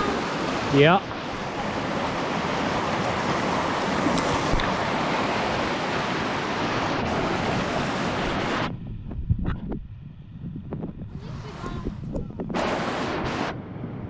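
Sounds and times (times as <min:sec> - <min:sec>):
floodwater rushing: 0:00.0 - 0:08.8, 0:11.0 - 0:14.0.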